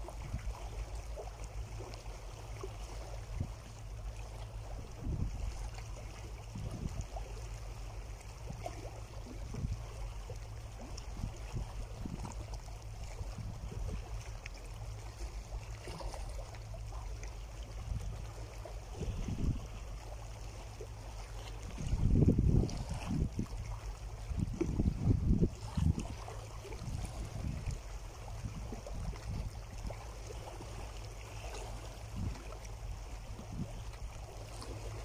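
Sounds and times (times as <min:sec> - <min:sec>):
waves lapping over rocks: 0:00.0 - 0:35.0
wind rumble on microphone: 0:00.0 - 0:35.0.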